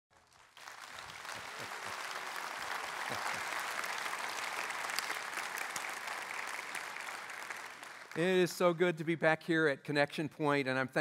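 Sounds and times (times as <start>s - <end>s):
congregation applauding: 0.1s - 9.0s.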